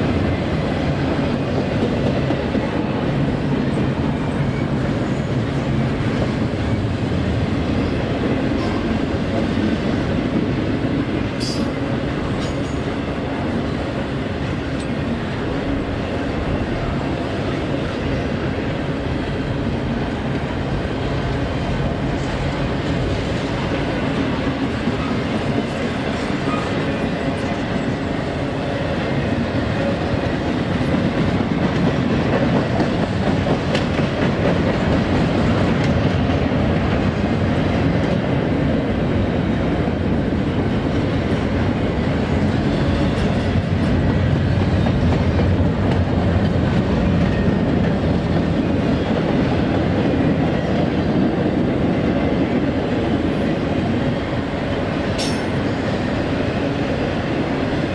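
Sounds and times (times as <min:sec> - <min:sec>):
freight train wheels rumbling on rail: 0:00.0 - 0:57.9.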